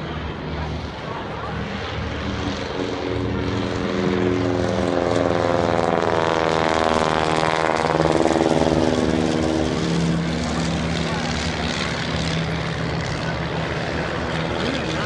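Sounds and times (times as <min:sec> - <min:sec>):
propeller plane engines passing: 0:00.0 - 0:15.0.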